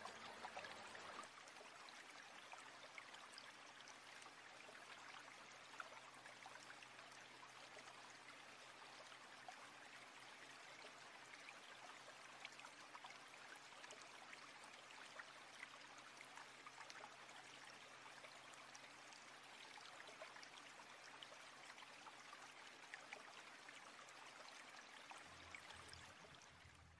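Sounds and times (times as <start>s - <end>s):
faint water trickle: 0.0s - 26.9s.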